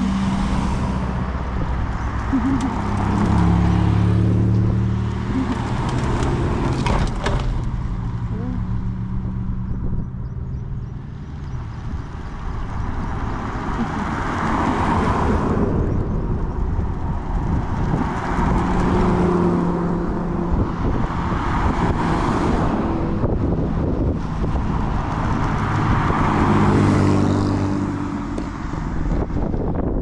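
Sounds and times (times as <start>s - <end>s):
cars passing by: 0.0s - 30.0s
engine and tyre noise: 0.0s - 30.0s.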